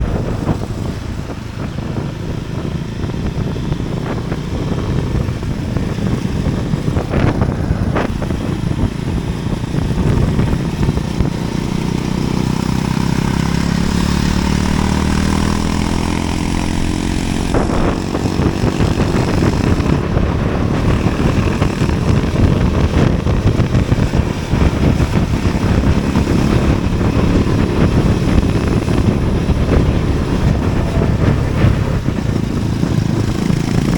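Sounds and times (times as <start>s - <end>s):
vehicle engine and road noise: 0.0s - 33.9s.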